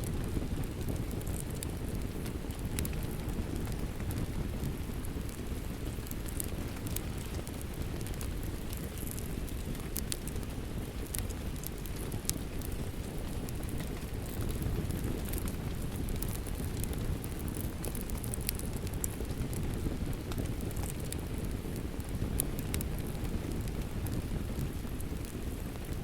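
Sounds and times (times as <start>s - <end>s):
steady rain: 0.0s - 26.0s
wood fire crackling and popping: 0.0s - 26.0s.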